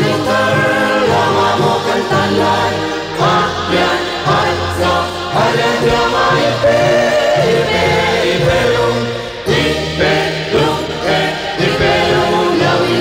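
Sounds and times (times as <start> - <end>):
group singing in chorus: 0.0 - 13.0.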